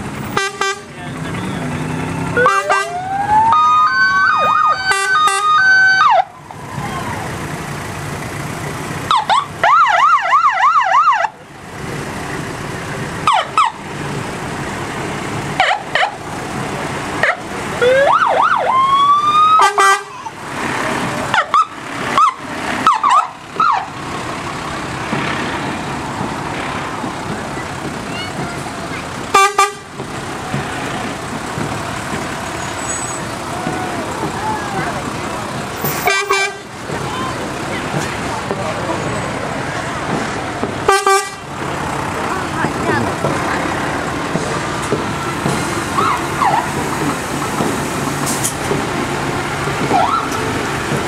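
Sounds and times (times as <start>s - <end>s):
fire engine sirens: 0.0s - 51.0s
vehicle running noise: 0.0s - 51.0s.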